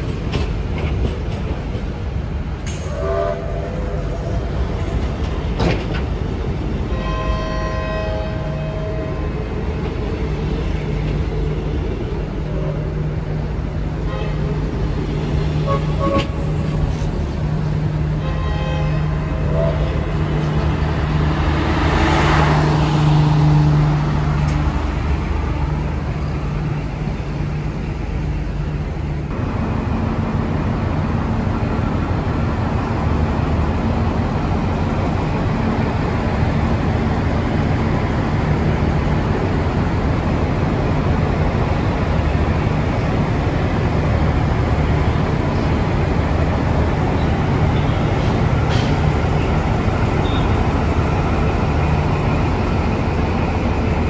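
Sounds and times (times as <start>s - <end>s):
diesel railcar engine droning: 0.0s - 54.0s
train carriages rolling past: 0.0s - 54.0s.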